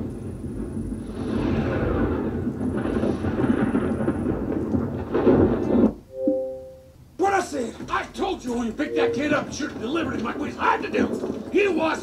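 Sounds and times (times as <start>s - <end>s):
deep rumble of film soundtrack: 0.0s - 12.0s.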